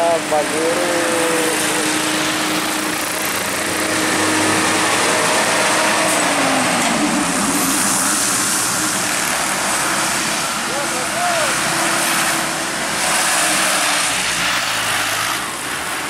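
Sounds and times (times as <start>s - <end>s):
diesel truck engine under load: 0.0s - 16.0s
traffic climbing: 0.0s - 16.0s.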